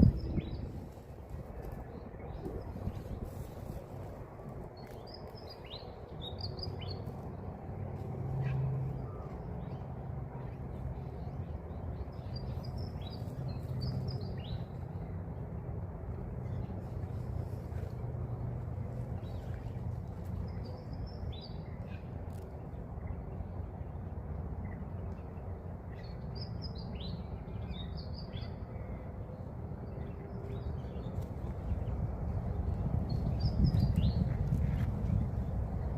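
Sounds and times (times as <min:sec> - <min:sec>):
steady low rumble: 0:00.0 - 0:35.9.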